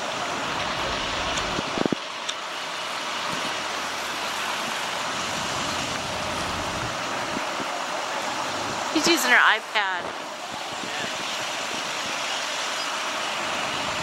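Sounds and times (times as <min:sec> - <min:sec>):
flooded creek rushing: 0:00.0 - 0:14.0
low engine hum: 0:00.0 - 0:14.0.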